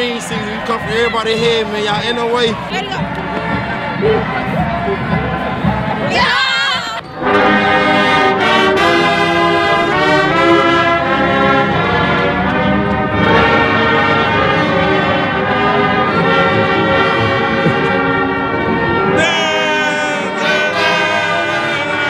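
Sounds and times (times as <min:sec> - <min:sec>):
brass instruments playing chords: 0:00.0 - 0:22.0.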